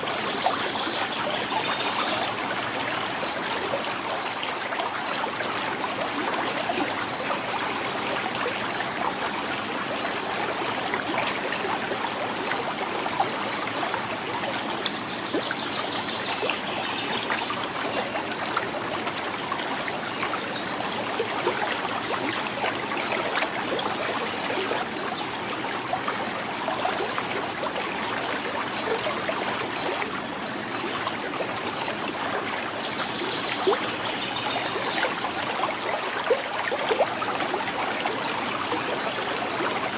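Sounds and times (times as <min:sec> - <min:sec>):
river gurgling: 0:00.0 - 0:39.9.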